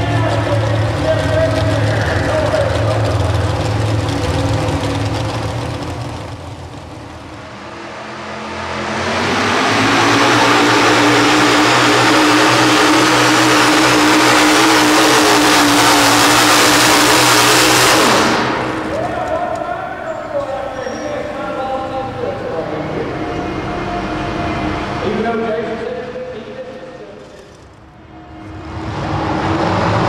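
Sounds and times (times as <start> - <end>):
quieter tractor engine running: 0.0 - 30.0
tractor engine at full throttle: 0.0 - 30.0.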